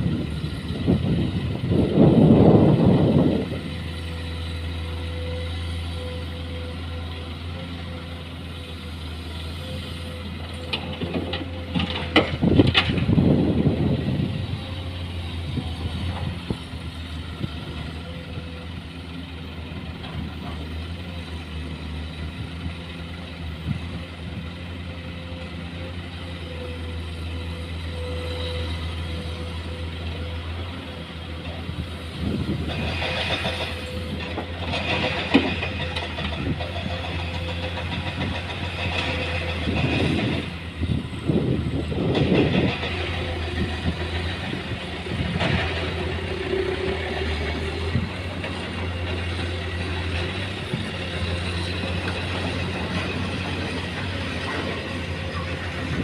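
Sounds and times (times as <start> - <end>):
diesel engine droning: 0.0 - 56.0
surging mechanical noise: 0.0 - 56.0.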